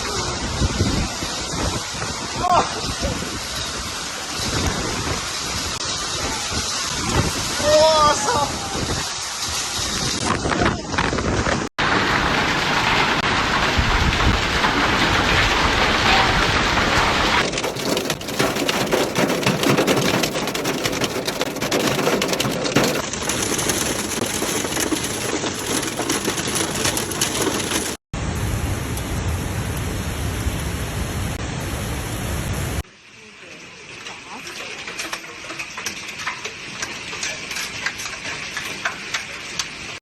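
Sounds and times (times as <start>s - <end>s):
hailstones pelting down: 0.1s - 28.0s, 33.4s - 40.0s.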